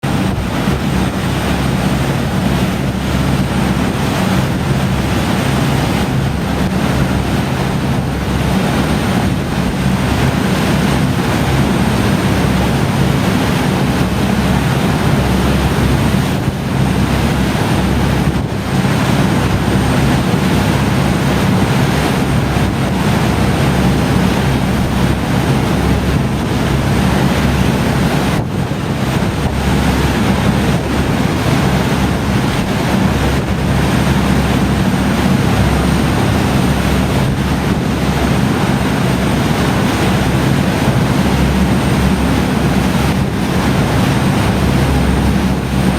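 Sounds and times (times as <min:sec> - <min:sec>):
rushing water: 0:00.0 - 0:45.9
wind buffeting microphone: 0:00.0 - 0:45.9.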